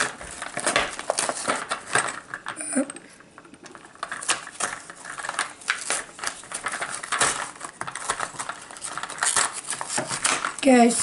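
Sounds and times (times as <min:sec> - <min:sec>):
packaging rustling and scraping: 0:00.0 - 0:02.6, 0:03.6 - 0:11.0.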